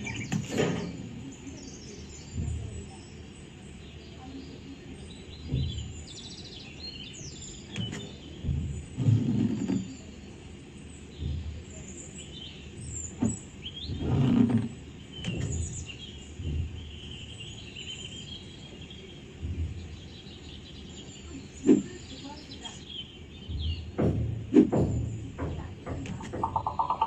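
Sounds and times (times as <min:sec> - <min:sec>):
low rumbles and thumps: 0:00.0 - 0:04.2, 0:05.0 - 0:27.0
small birds chirping: 0:00.0 - 0:27.0.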